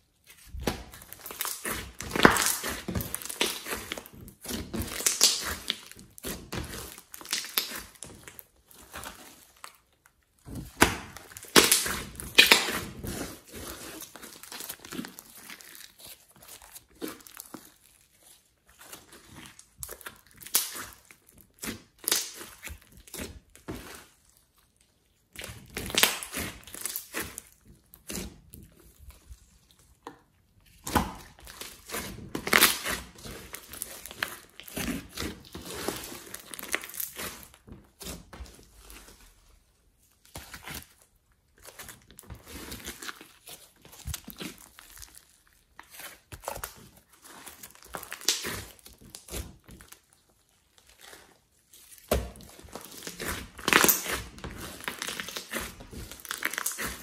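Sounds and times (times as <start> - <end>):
slime crackling and squelching: 0.0 - 57.0.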